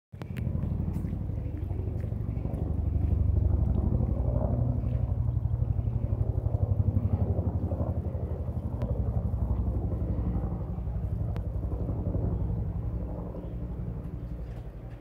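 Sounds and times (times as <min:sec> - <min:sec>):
distant helicopter rotor beating: 0:00.1 - 0:15.0.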